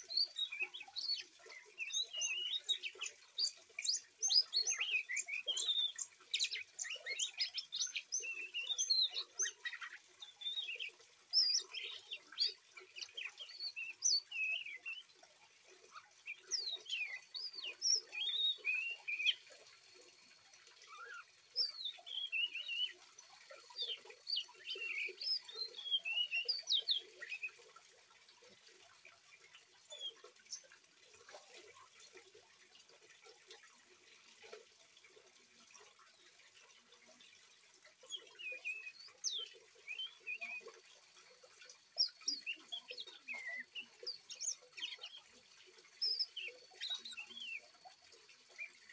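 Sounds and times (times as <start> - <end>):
bird twittering song: 0.0 - 27.8, 28.4 - 32.0, 35.7 - 48.9
faint flowing water: 0.0 - 48.9.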